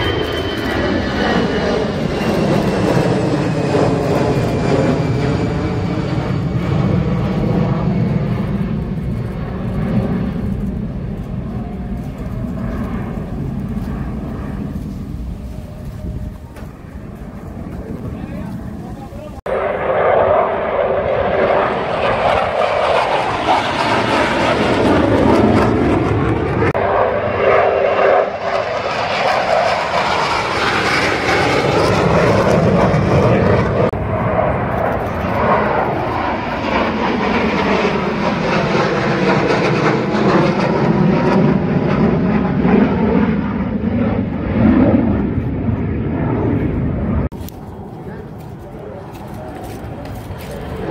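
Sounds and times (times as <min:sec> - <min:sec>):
jet aircraft roar: 0:00.0 - 0:50.9.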